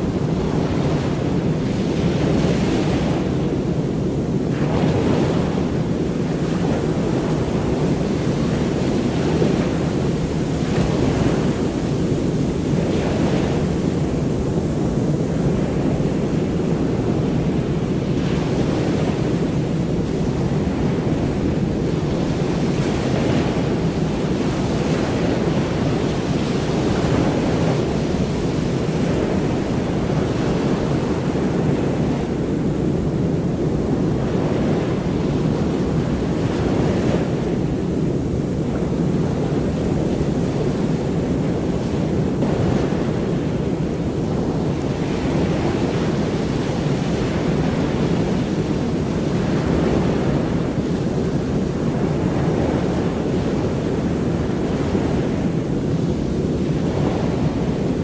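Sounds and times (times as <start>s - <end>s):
ocean surf rushing: 0.0s - 58.0s.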